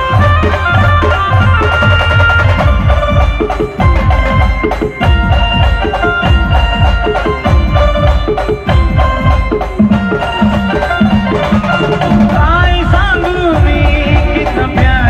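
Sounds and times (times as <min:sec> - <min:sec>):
held melody notes: 0:00.0 - 0:15.0
rapid drum strokes: 0:00.0 - 0:15.0.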